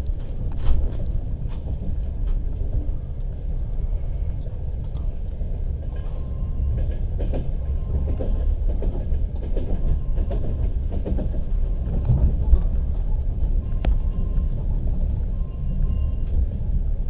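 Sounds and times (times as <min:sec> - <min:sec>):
train rumble inside carriage: 0:00.0 - 0:17.0
wheels clicking on rails: 0:00.0 - 0:17.0.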